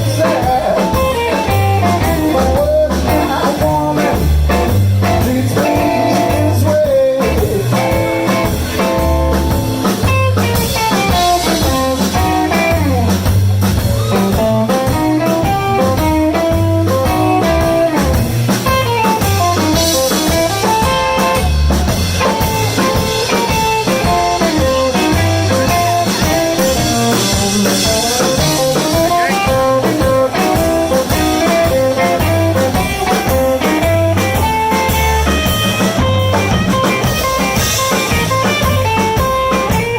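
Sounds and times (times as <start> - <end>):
bass and drum kit: 0.0 - 39.9
electric guitar soloing: 0.0 - 39.9.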